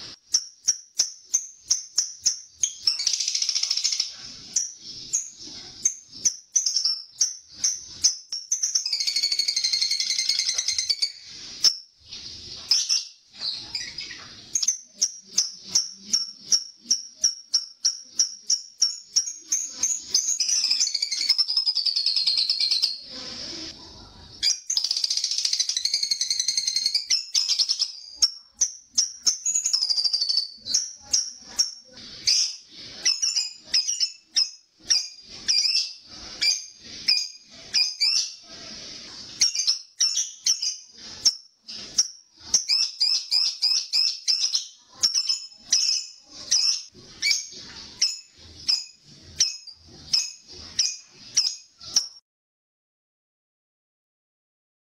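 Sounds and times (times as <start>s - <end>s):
lovebird sharp chirps: 0.0s - 23.2s, 24.3s - 38.5s, 39.3s - 52.2s
lovebird chattering trill: 0.3s - 11.8s, 12.6s - 23.1s, 24.4s - 38.4s, 39.4s - 52.2s.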